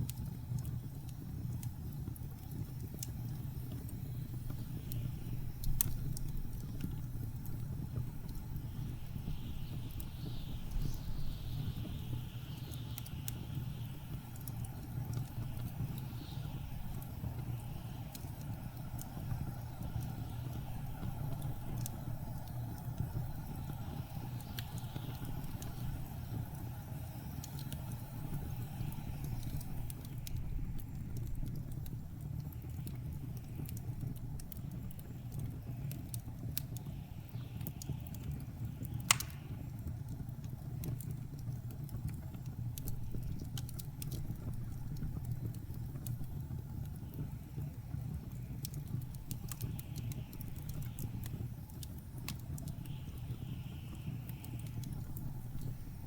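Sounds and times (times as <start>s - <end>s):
low rumble of wind: 0.0s - 56.0s
wood fire crackling and popping: 0.0s - 56.0s.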